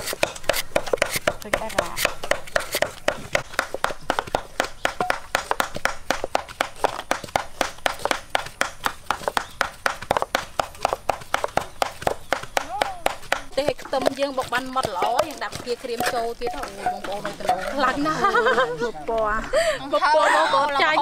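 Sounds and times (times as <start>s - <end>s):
knives chopping on wooden boards: 0.0s - 18.0s.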